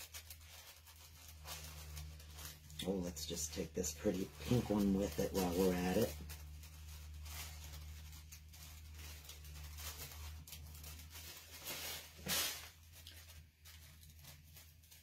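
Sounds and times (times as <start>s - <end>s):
low steady hum: 0.0s - 15.0s
paper rustle: 0.0s - 15.0s.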